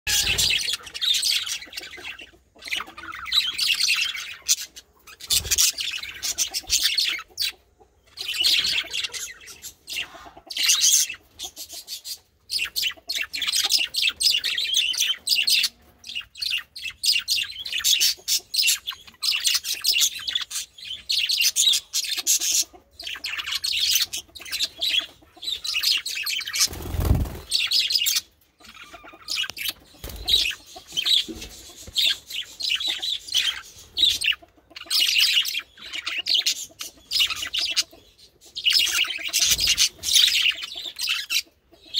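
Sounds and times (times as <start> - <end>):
budgerigars chattering: 0.1 - 41.9.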